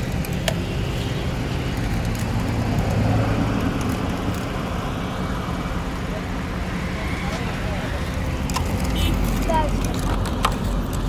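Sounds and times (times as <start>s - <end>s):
road traffic noise: 0.0s - 11.0s
vehicle passing: 1.0s - 10.9s.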